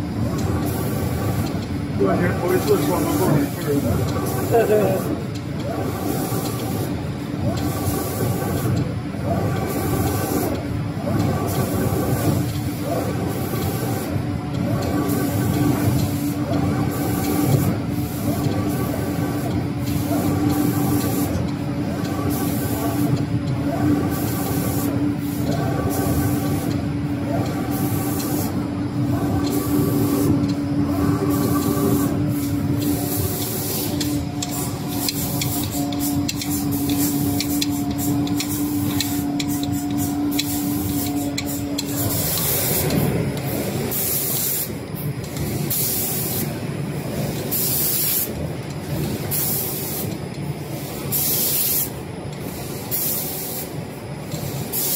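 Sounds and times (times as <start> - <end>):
steady machine hum: 0.0 - 54.9
spray guns hissing: 0.4 - 8.8, 9.4 - 46.6, 47.2 - 54.9.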